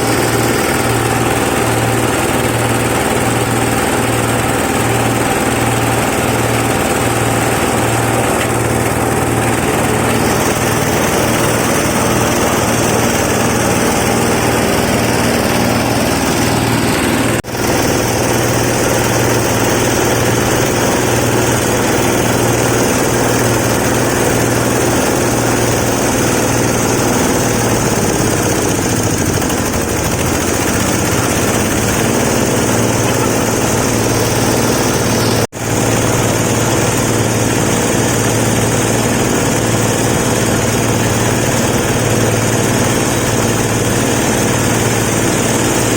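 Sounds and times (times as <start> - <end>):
flour grinder machine drone: 0.0 - 45.9.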